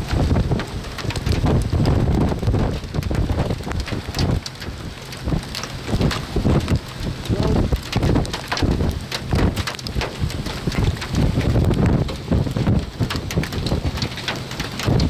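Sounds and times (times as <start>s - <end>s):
gusty wind buffeting microphone: 0.0s - 15.0s
rain ticking: 0.0s - 15.0s.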